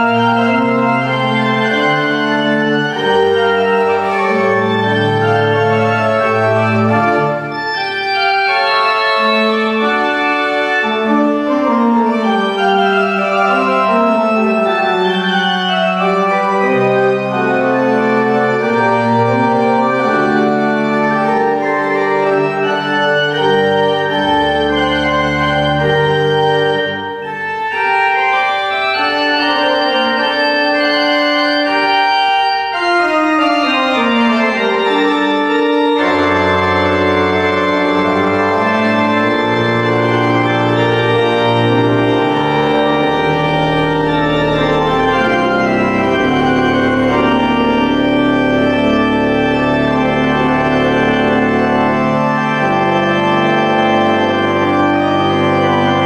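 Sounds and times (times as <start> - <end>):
deep organ pedal bass: 0.0 - 56.0
pipe organ chords: 0.0 - 56.0.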